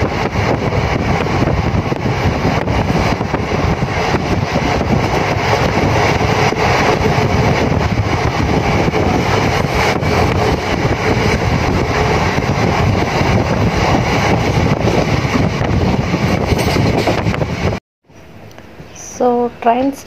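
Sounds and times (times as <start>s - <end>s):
train wheel and track noise: 0.0s - 17.8s
wind buffeting microphone: 0.0s - 17.8s.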